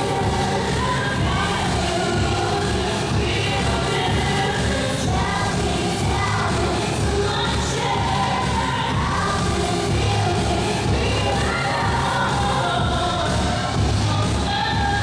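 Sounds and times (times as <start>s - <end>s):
person singing: 0.0s - 15.0s
pop song with steady beat: 0.0s - 15.0s.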